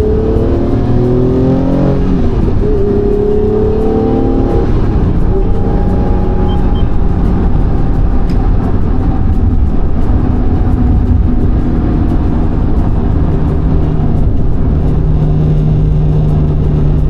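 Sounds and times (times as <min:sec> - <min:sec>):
car engine: 0:00.0 - 0:17.0
road rumble: 0:00.0 - 0:17.0.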